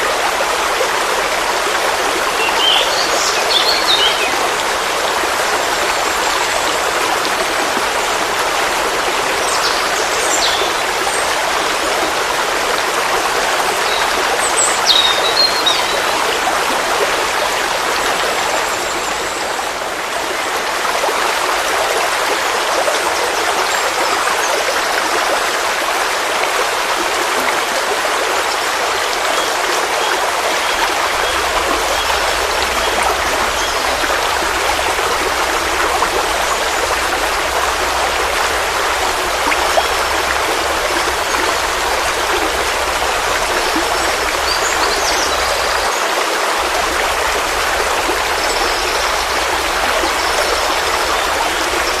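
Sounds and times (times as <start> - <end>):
forest stream flowing: 0.0 - 52.0.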